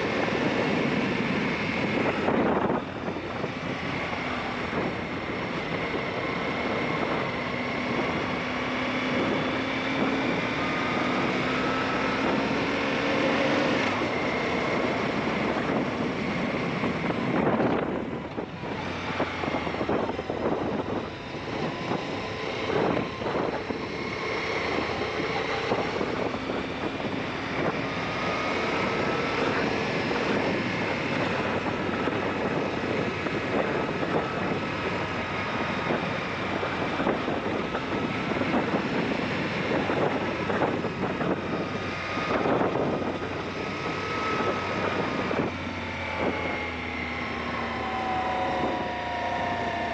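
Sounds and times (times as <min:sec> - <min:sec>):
motorcycle engine running: 0:00.0 - 0:49.9
wind buffeting microphone: 0:00.0 - 0:49.9.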